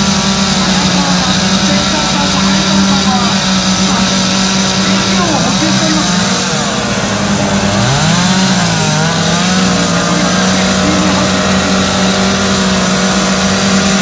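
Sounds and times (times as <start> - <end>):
chainsaw at high revs: 0.0 - 14.0
wavering engine or voice: 0.0 - 14.0.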